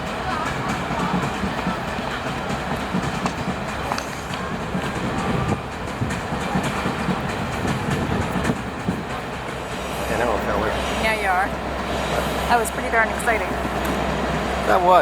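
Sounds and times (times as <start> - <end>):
train rumbling: 0.0 - 15.0
wheels clicking on track: 0.0 - 15.0.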